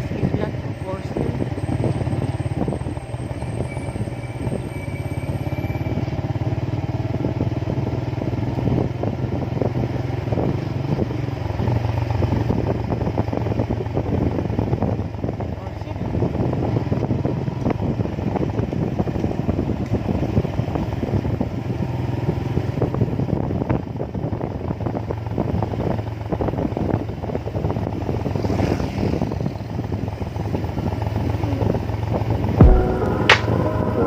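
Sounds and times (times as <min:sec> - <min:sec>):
road and wind noise: 0:00.0 - 0:34.0
vehicle engine drone: 0:00.0 - 0:34.0.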